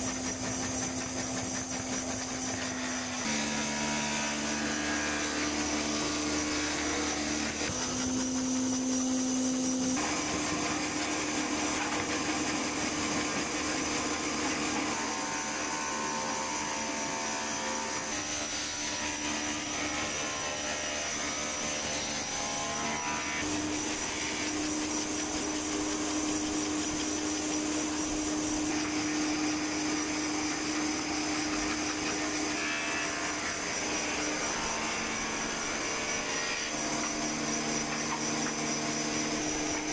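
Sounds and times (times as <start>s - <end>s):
scroll saw motor whine: 0.0s - 39.9s.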